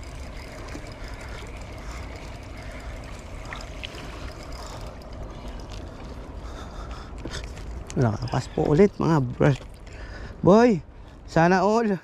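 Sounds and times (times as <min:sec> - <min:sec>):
water noise: 0:00.0 - 0:11.5.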